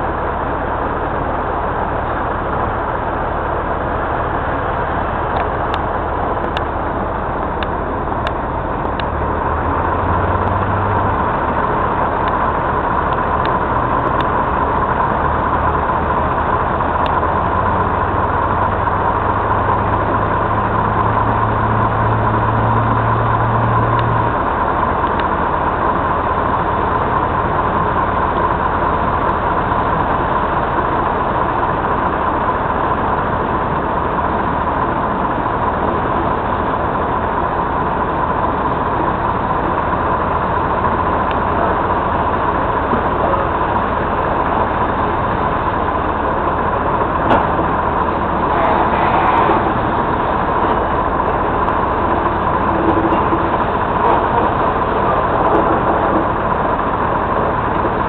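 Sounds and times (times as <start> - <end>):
diesel locomotive running: 0.0 - 58.0
steady high whine: 0.0 - 58.0.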